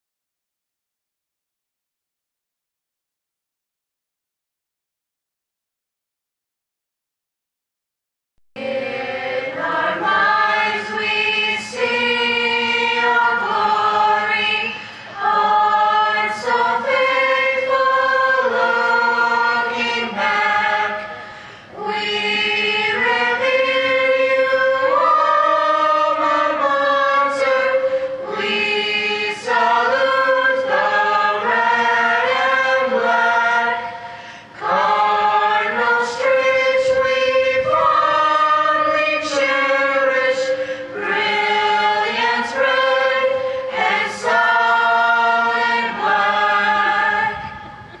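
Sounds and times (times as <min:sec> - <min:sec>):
choir singing unaccompanied: 0:08.6 - 0:48.0.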